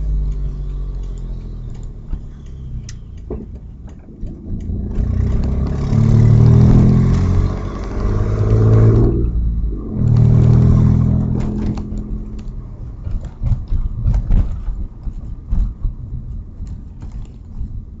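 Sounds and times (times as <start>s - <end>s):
car engine accelerating: 0.0s - 18.0s
sharp exhaust pops: 0.0s - 18.0s.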